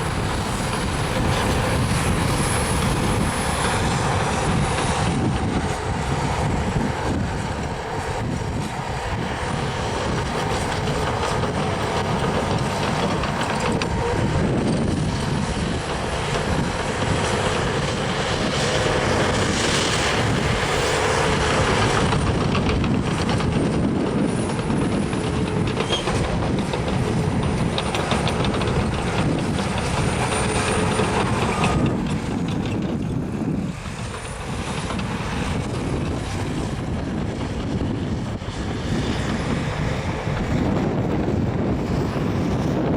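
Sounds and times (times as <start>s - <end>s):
bulldozer diesel engine under load: 0.0s - 42.9s
steel tracks clattering: 0.0s - 42.9s.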